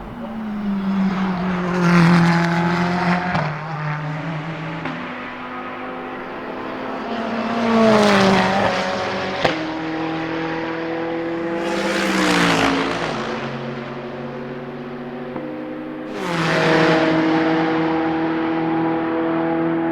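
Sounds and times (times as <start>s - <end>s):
race car passing: 0.0s - 19.9s.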